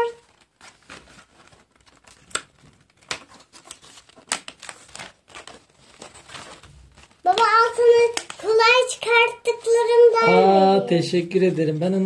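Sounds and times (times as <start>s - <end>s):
card rustling and snapping: 0.0s - 10.1s.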